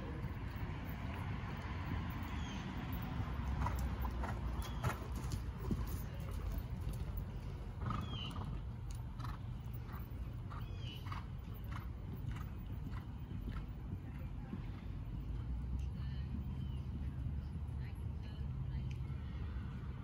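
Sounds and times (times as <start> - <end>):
horse hooves thudding on sand: 0.0 - 17.6
steady low rumble: 0.0 - 20.0.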